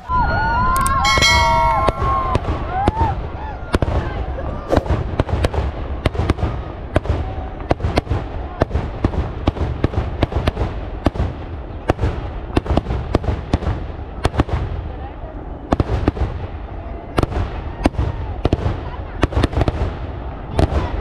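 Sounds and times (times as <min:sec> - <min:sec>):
fireworks bangs: 0:01.0 - 0:21.0.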